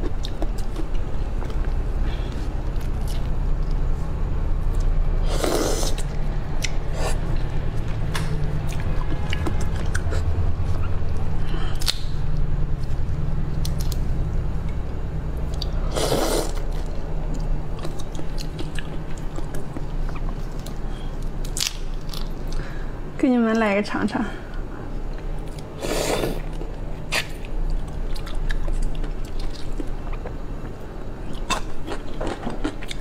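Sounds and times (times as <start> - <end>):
low hum: 0.0 - 33.0.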